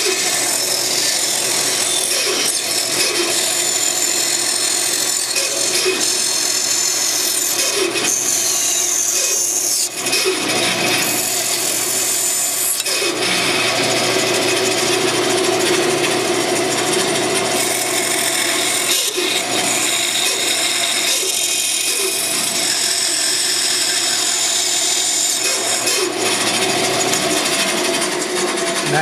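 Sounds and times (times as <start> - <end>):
bandsaw cutting wood: 0.0 - 29.0
dust collector running: 0.0 - 29.0.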